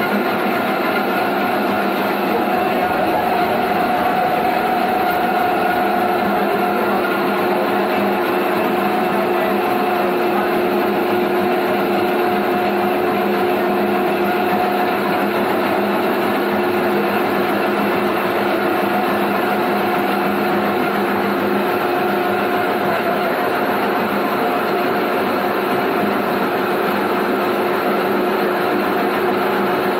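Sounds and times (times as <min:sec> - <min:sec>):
pulping machine humming: 0:00.0 - 0:29.9.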